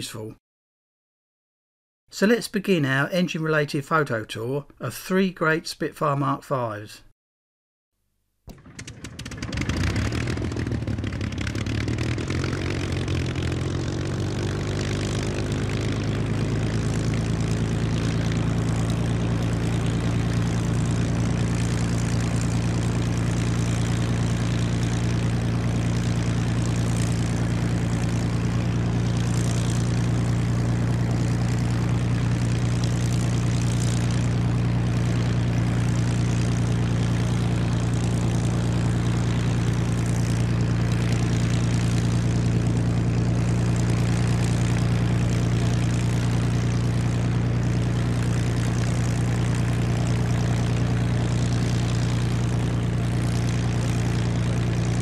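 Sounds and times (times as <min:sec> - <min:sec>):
aircraft engine and propeller drone: 0:08.5 - 0:55.0.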